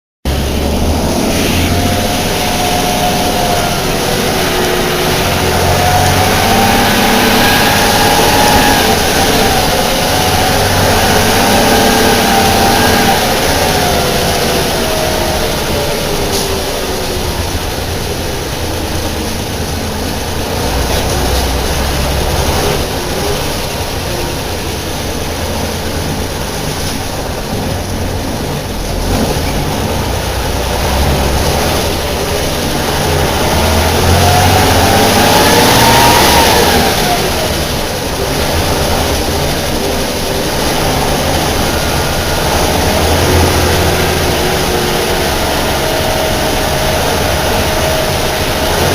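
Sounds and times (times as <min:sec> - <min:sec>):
bus diesel engine rumbling: 0:00.2 - 0:48.9
whine rising in pitch: 0:00.3 - 0:26.6, 0:28.0 - 0:48.9.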